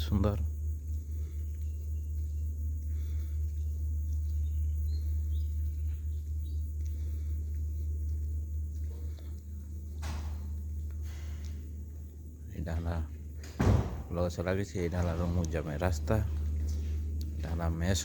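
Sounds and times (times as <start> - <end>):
birds: 0.0 - 18.0
faint insects: 0.0 - 18.0
steady low rumble: 0.0 - 18.0.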